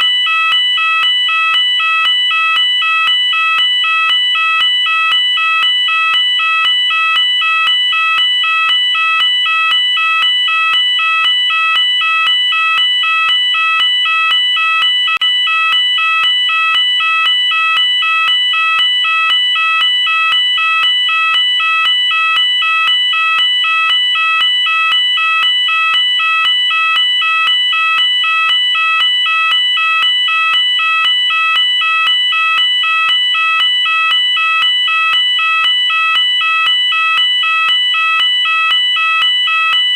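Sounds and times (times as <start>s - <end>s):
two-tone fire alarm: 0.0s - 39.9s.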